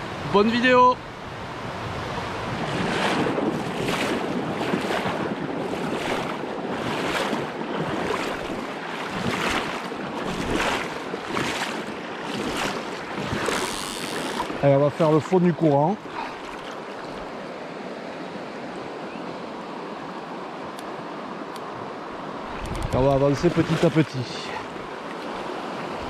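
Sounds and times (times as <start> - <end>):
fast river current rushing: 0.0 - 26.0.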